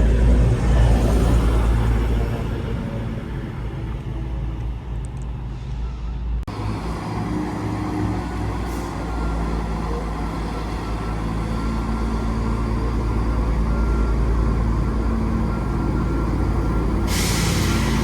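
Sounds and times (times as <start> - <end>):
diesel train engine rumbling: 0.0 - 18.0.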